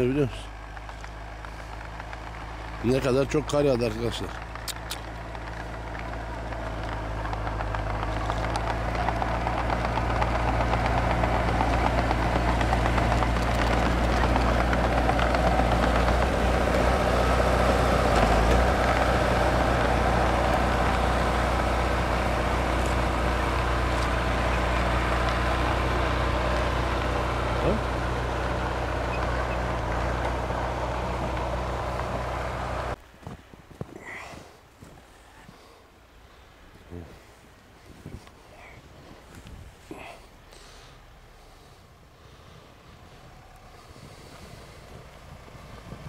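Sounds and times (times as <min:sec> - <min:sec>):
diesel dozer engine running: 0:00.0 - 0:33.0, 0:38.9 - 0:46.0.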